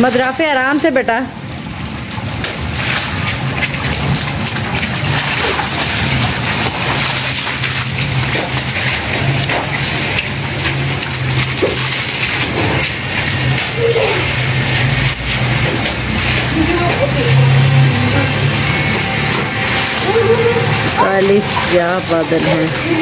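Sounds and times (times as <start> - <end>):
heavy rain splashing on rooftop: 0.0 - 23.0.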